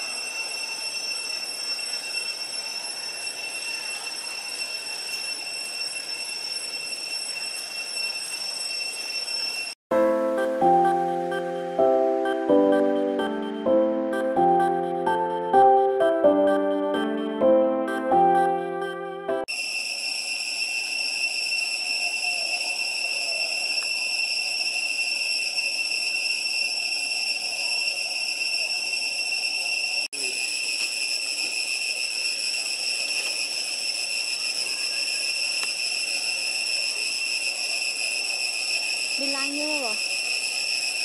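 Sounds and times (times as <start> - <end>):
cicadas droning: 0.0 - 18.5, 19.5 - 41.0.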